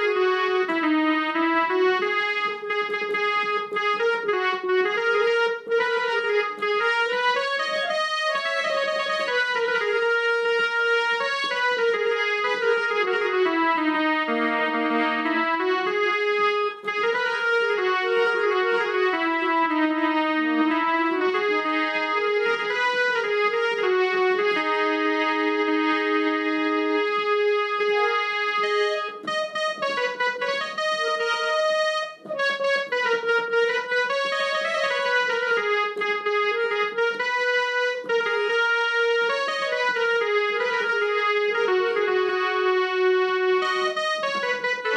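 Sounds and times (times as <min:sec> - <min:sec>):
electronic harmonium melody: 0:00.0 - 0:44.9.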